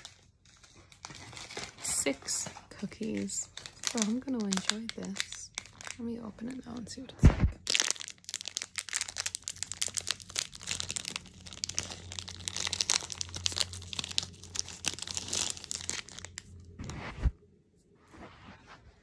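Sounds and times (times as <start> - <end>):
plastic wrapper crinkling and tearing: 0.0 - 6.8, 7.6 - 16.8.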